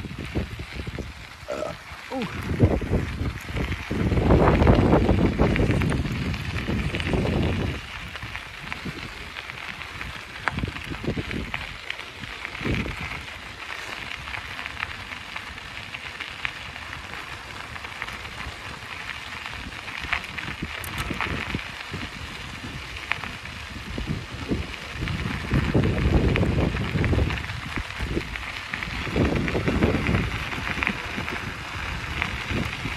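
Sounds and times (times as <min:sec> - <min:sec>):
bicycle tyres hissing on road: 0:00.0 - 0:32.9
wind rumbling on microphone: 0:00.0 - 0:32.9.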